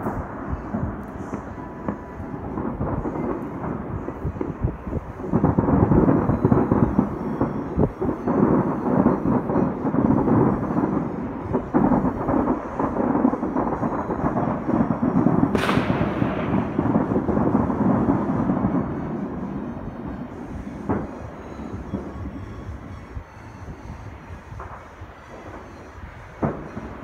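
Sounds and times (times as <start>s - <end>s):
sharp firework crack: 0.0s - 22.2s
fireworks exploding: 0.0s - 27.0s.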